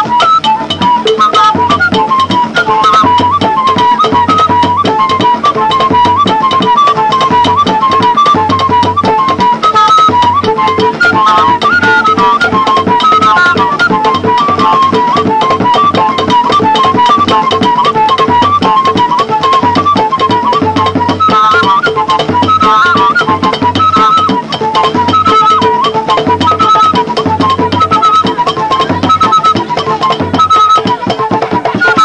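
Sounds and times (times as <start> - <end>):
fast steady drumming: 0.0 - 32.0
high wavering melody: 0.0 - 32.0.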